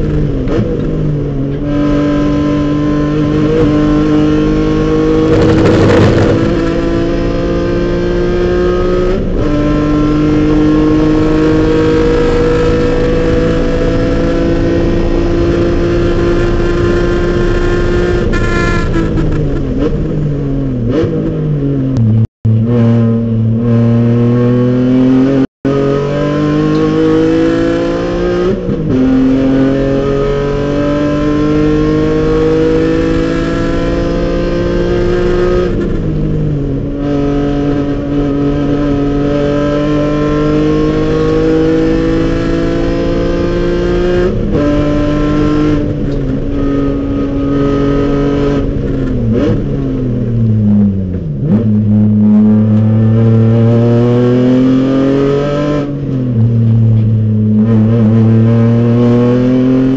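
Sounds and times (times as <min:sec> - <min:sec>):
race car engine revving: 0:00.0 - 0:20.1, 0:22.5 - 0:59.9.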